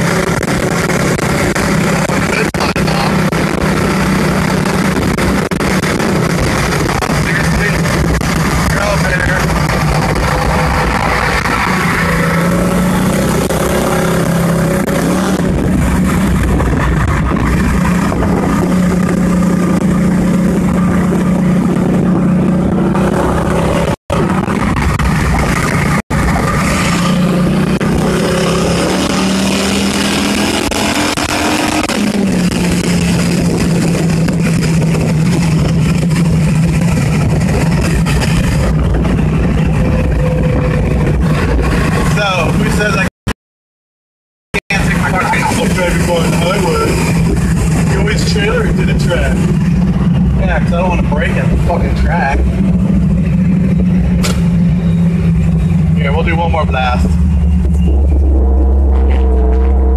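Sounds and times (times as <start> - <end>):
car engine running: 0.0 - 43.1, 44.6 - 59.9
road noise: 0.0 - 43.1, 44.6 - 59.9.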